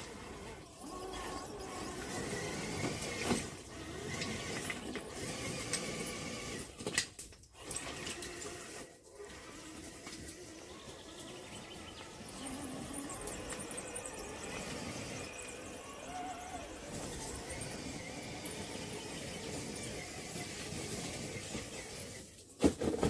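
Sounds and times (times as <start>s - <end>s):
rc car motor whining: 0.0s - 22.4s.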